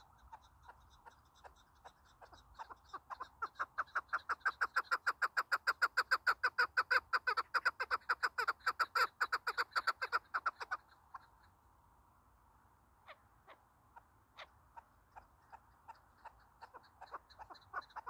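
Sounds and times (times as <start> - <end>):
partridge chuck calls: 0.0 - 11.6, 13.0 - 18.0.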